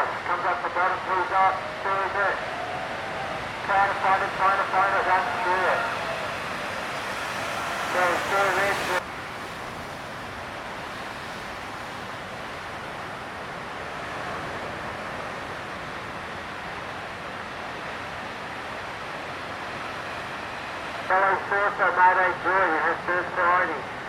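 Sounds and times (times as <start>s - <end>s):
ocean surf: 0.0s - 24.0s.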